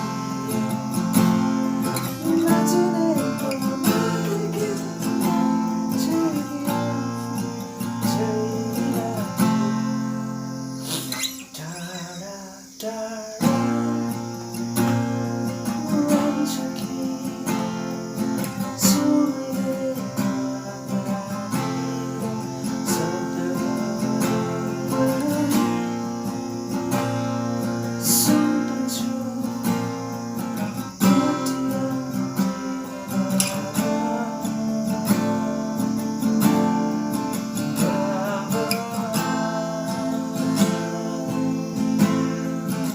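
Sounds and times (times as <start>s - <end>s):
strummed acoustic guitar: 0.0s - 42.9s.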